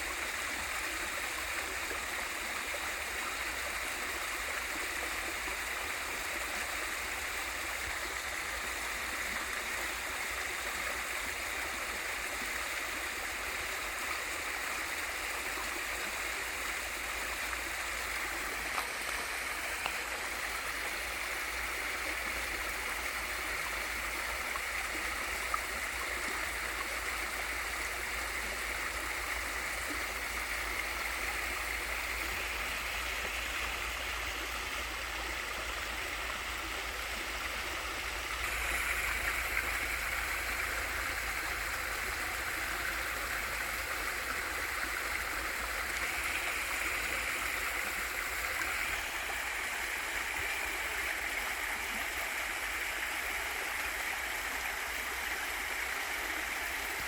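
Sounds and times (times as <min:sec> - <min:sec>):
small waterfall rushing: 0:00.0 - 0:57.0.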